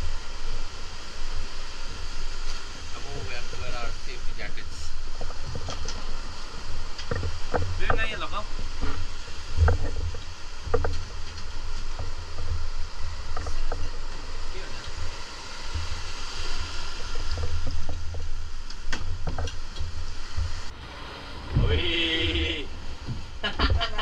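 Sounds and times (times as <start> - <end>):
motorboat engine rumble: 0.0 - 24.0
water washing around hull: 0.0 - 24.0.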